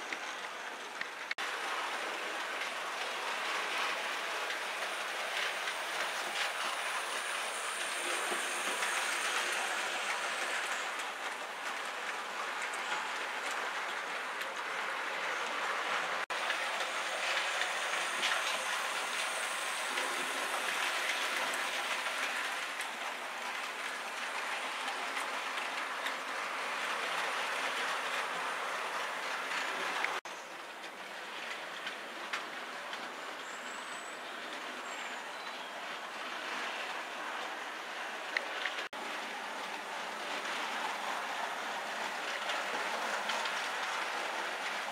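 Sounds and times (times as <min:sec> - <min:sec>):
model train wheels clattering on rails: 0:00.0 - 0:44.9.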